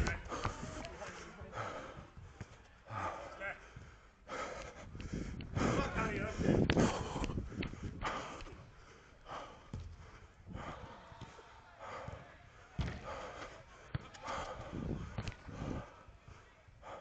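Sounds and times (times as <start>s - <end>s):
heavy breathing: 0.0s - 17.0s
running footsteps: 0.0s - 17.0s.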